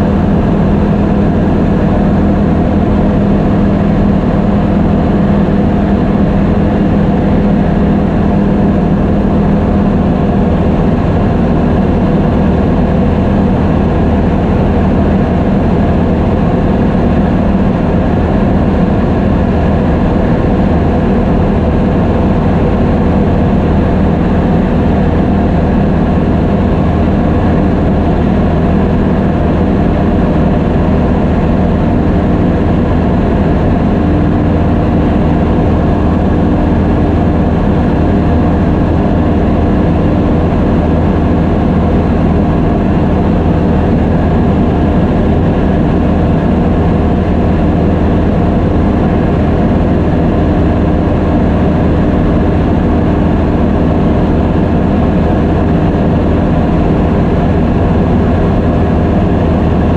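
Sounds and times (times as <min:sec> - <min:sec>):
small airplane engine droning: 0:00.0 - 0:59.9.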